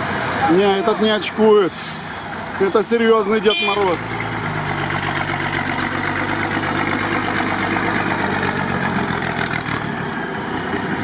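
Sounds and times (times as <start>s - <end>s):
truck engine running: 0.1s - 11.0s.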